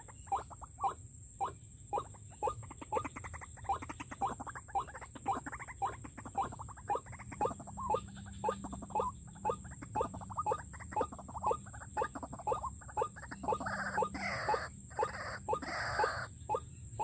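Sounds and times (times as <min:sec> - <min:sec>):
waterhen calls: 0:00.0 - 0:17.0.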